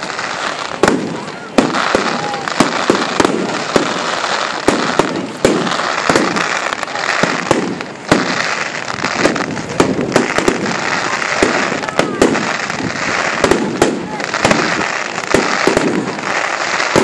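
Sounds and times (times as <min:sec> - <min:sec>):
fireworks banging: 0:00.0 - 0:17.0
fireworks crackling: 0:00.0 - 0:17.0.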